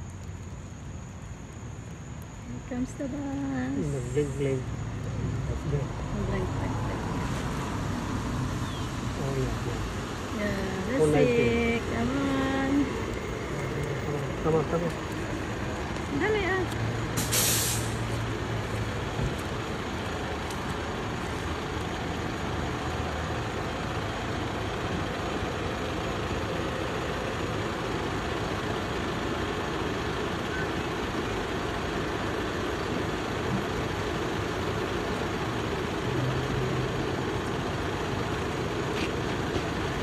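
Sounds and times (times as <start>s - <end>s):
bus engine running: 2.4s - 40.0s.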